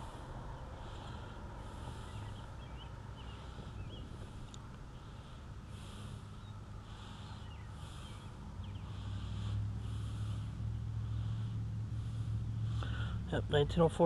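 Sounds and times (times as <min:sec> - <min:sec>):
breathing through the nose: 0:00.0 - 0:13.3
low hum: 0:00.0 - 0:14.0.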